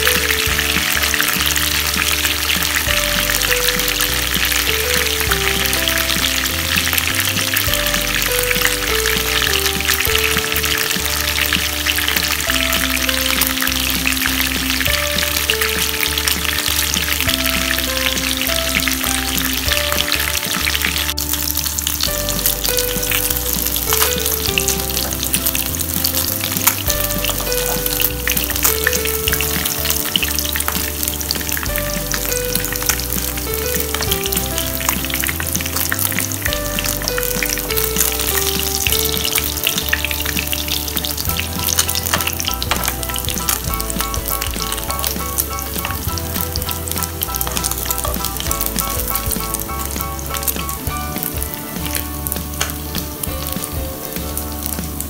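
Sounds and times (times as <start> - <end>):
background music with bass: 0.0 - 55.0
oil sizzling in a frying pan: 0.0 - 55.0.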